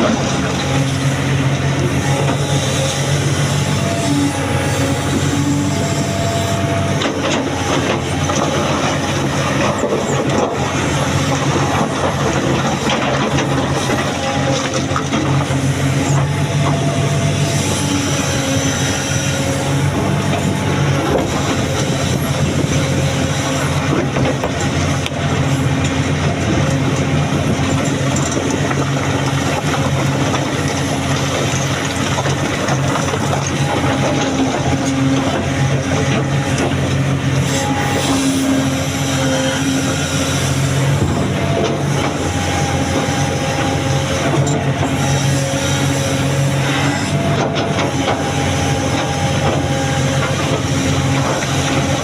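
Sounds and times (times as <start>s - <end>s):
excavator diesel engine: 0.0s - 52.0s.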